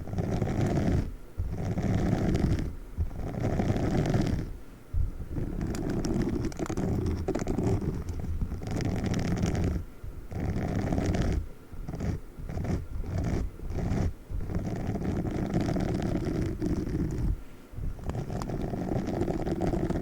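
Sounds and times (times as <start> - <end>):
sponge rubbing against microphone: 0.0 - 20.0.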